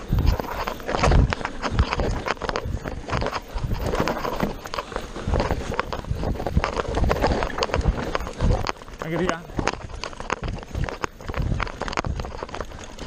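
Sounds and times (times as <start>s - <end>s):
bike knocks and rattles: 0.0s - 13.0s
tyres crunching over stones: 0.0s - 13.0s.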